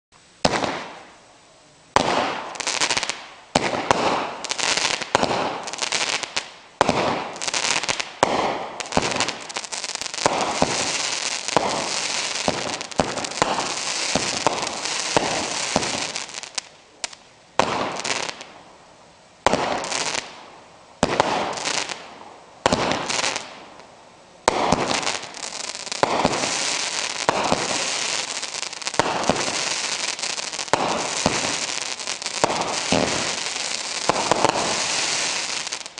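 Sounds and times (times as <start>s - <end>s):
firework shots popping: 0.4s - 1.1s, 1.9s - 18.5s, 19.4s - 23.8s, 24.4s - 35.9s
dense firework crackle: 0.4s - 35.9s.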